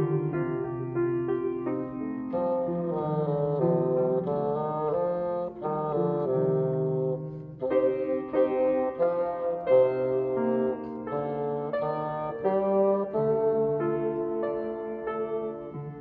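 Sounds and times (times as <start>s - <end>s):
bassoon melody: 0.0s - 16.0s
grand piano: 0.0s - 16.0s.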